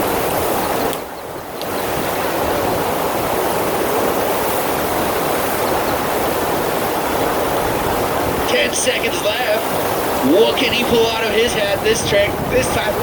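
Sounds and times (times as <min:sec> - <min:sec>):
sheet of water rushing: 0:00.0 - 0:13.0.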